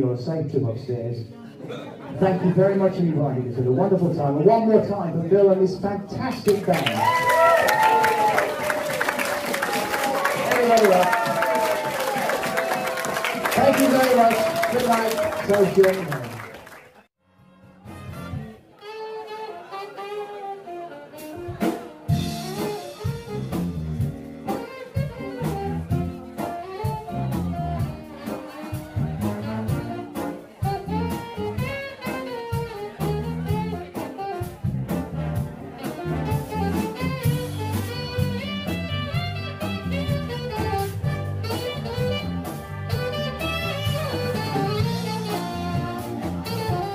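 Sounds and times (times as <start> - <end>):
big band jazz music: 2.2 - 16.5, 17.2 - 46.9.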